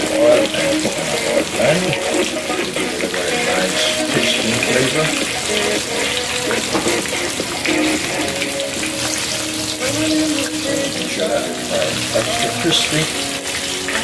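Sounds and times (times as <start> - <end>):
fish sizzling in hot oil: 0.0 - 14.0.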